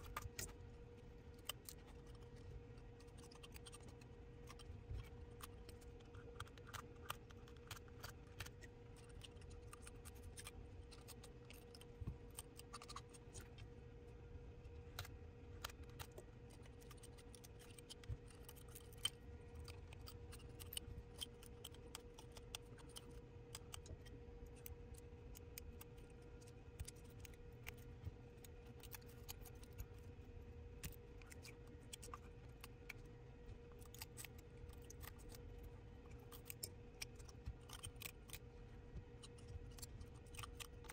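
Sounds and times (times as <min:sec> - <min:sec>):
faint hum: 0:00.0 - 0:40.9.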